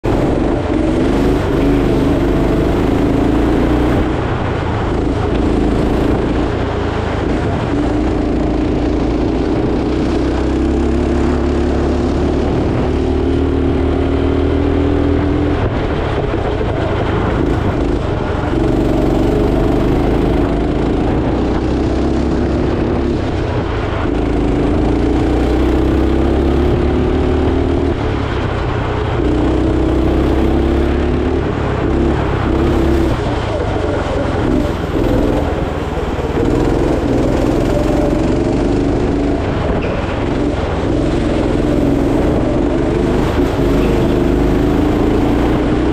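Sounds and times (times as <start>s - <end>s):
go-kart engine revving: 0.0s - 45.9s.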